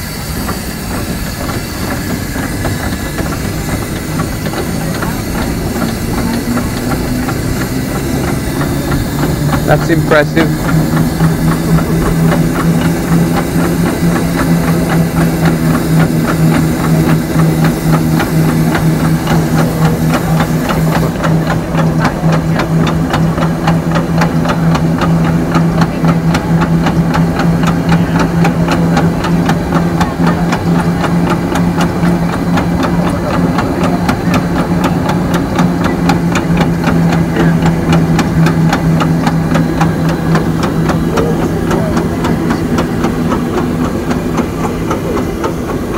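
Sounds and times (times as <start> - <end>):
car engine idling with clatter: 0.0 - 45.9.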